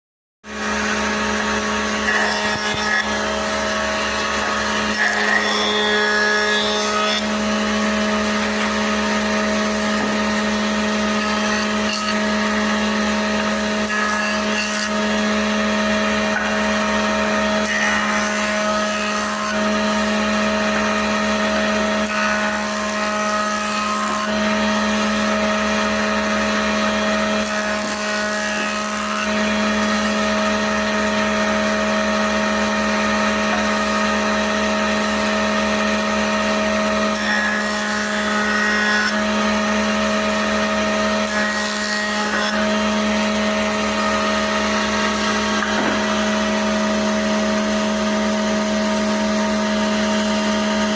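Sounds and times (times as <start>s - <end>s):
power tool motor humming: 0.4s - 50.9s.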